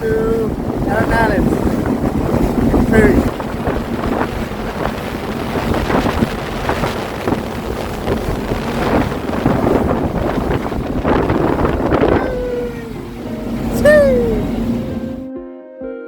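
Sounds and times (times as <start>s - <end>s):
wind buffeting microphone: 0.0s - 15.2s
ferry engine humming: 0.0s - 15.3s.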